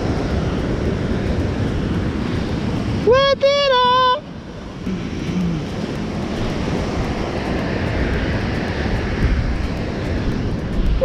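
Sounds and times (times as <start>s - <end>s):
ocean surf on rocks: 0.0s - 11.0s
wind buffeting microphone: 0.0s - 11.0s.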